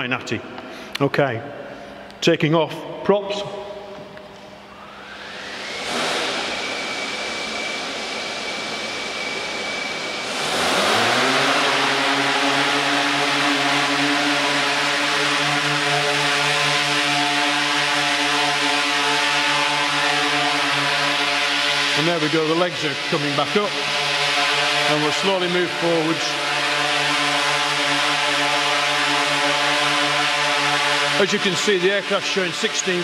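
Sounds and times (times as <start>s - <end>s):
drone propellers whining: 3.7s - 33.0s.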